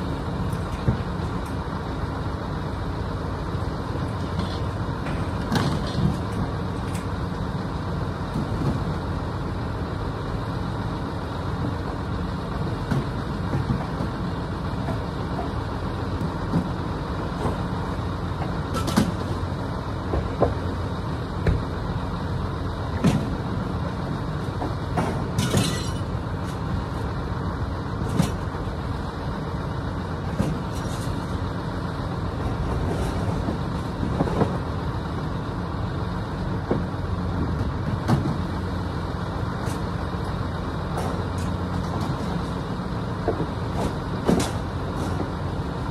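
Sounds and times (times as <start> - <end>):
motor vehicle running: 0.0 - 45.9
clunks and rattles: 0.1 - 1.7, 4.1 - 7.5, 8.1 - 9.4, 11.5 - 45.9.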